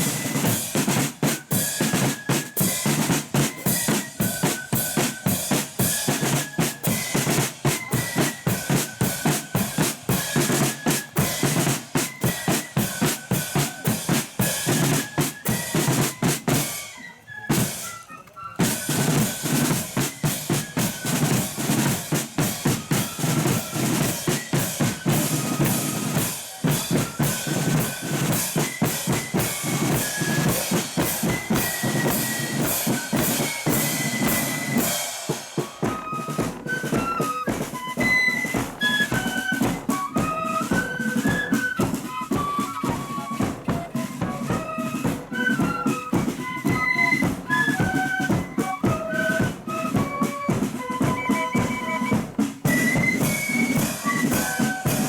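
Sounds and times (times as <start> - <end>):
flute melody: 0.0 - 55.0
snare and bass drums march: 0.0 - 55.0.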